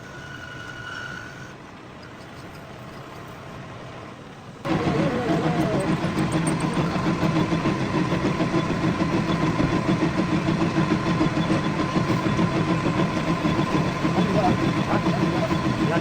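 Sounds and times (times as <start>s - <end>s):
lathe humming with regular pulse: 0.0s - 16.0s.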